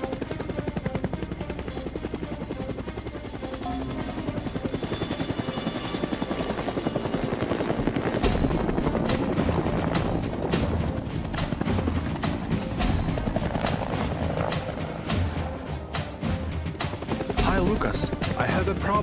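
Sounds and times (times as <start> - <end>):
background music: 0.0 - 19.0
helicopter rotor chopping: 0.0 - 19.0.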